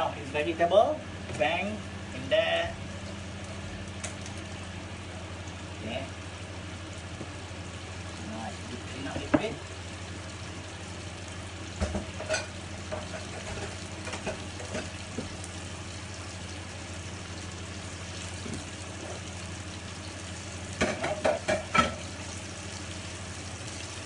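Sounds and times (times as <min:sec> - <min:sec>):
fish frying in butter: 0:00.2 - 0:24.0.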